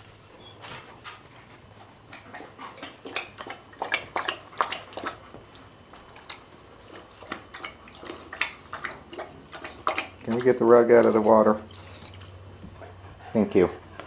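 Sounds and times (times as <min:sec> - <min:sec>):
puppy lapping water: 0:02.1 - 0:13.6.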